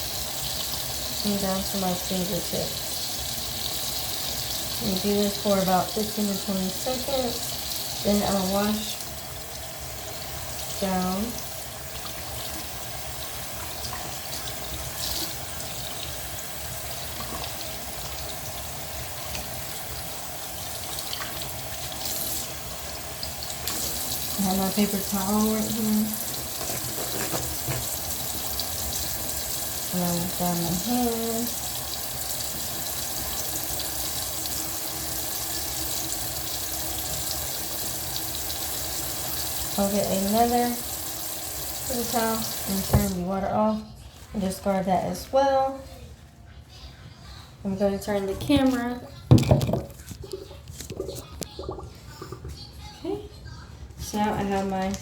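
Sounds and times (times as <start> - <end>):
tap water running into sink: 0.0 - 43.2, 48.4 - 52.6.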